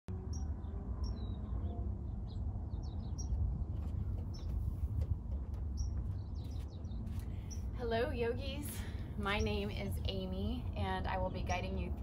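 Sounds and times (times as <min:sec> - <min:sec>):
steady low rumble: 0:00.1 - 0:12.0
small birds chirping: 0:00.3 - 0:12.0.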